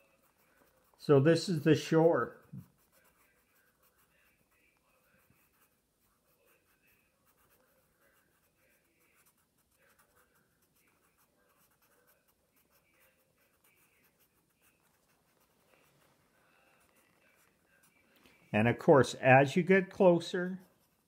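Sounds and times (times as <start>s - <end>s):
pencil scratching on paper: 0.0s - 18.9s, 19.8s - 21.0s.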